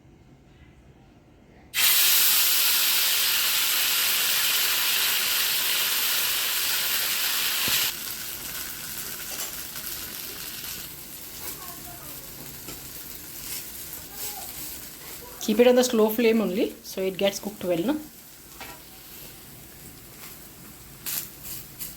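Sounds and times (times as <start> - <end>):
batter sizzling in hot oil: 1.8 - 21.9.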